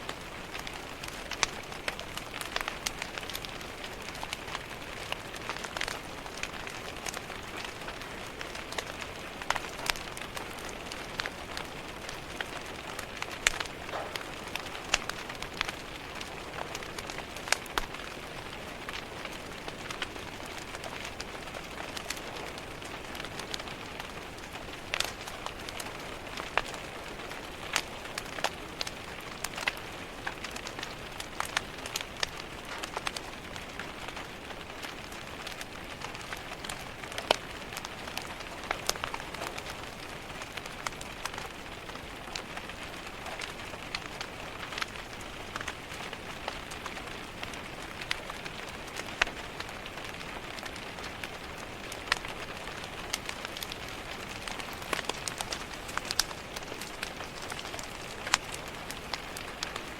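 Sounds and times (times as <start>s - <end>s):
rain patter: 0.0s - 59.9s
wood fire crackling: 0.0s - 59.9s.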